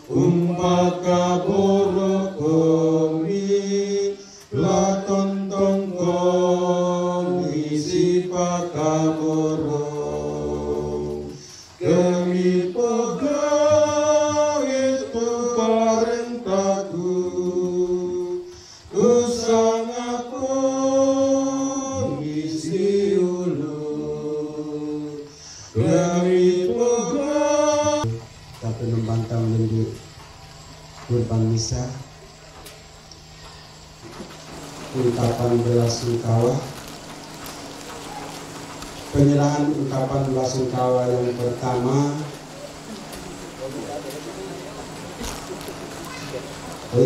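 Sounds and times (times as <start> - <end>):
person chanting on sung notes: 0.0 - 30.0, 38.0 - 47.0.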